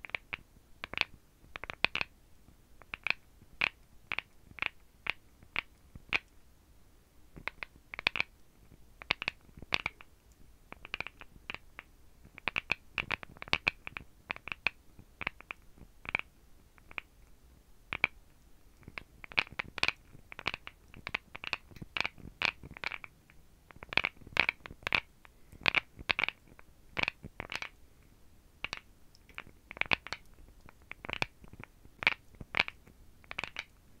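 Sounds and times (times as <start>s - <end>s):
fingernails clicking on bone: 0.0s - 2.1s, 2.8s - 6.3s, 7.4s - 8.4s, 9.0s - 17.1s, 17.9s - 18.2s, 18.8s - 27.8s, 28.6s - 33.8s.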